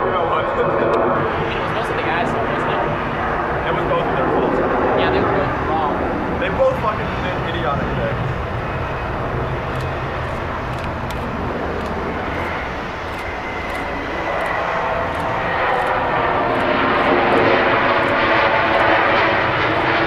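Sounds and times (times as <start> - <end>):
high engine whine: 0.0 - 20.0
jet engine rushing: 0.0 - 20.0.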